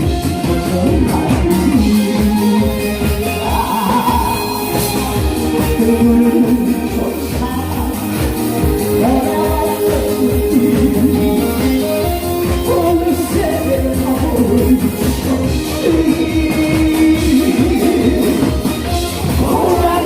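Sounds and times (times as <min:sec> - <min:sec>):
music with steady beat: 0:00.0 - 0:20.0
person singing: 0:00.0 - 0:20.0.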